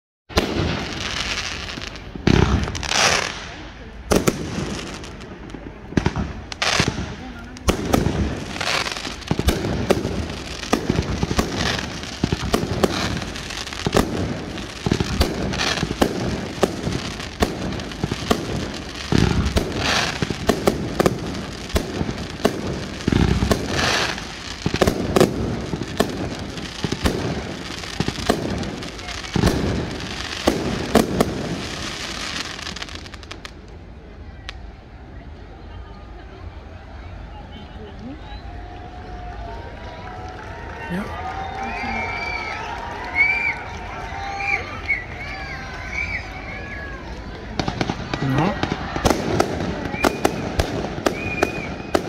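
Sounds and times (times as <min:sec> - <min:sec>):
fireworks bangs: 0:00.3 - 0:33.8, 0:39.2 - 0:52.0
fireworks crackling: 0:00.3 - 0:52.0.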